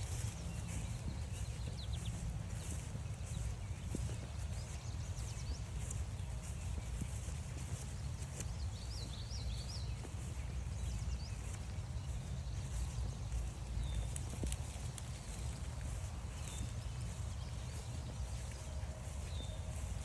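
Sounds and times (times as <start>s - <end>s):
bird singing: 0.0s - 20.0s
footsteps on forest trail: 0.0s - 20.0s
steady low rumble: 0.0s - 20.0s.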